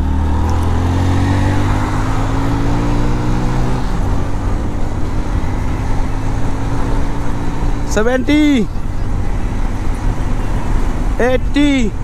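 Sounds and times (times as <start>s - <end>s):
motorcycle engine at full throttle: 0.0s - 12.0s.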